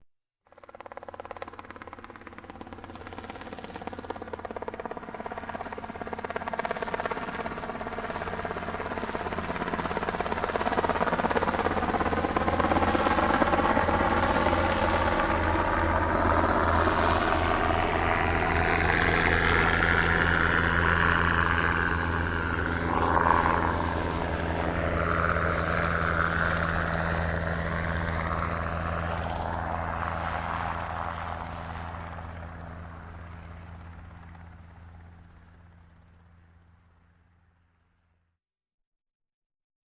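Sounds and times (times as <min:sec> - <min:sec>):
helicopter rotor beating: 0:00.5 - 0:36.8
helicopter engine drone: 0:00.5 - 0:37.5.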